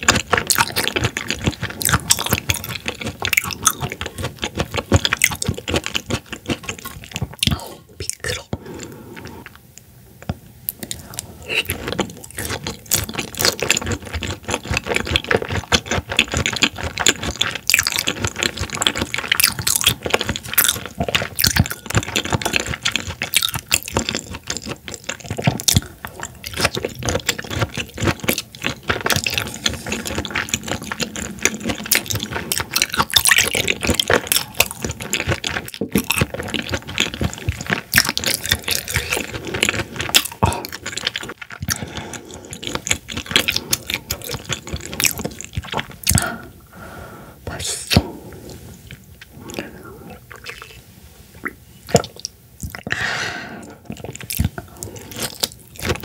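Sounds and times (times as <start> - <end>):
wet chewing and lip smacking: 0.0 - 9.9, 10.7 - 46.4, 47.6 - 50.8, 51.4 - 53.0, 53.6 - 56.0.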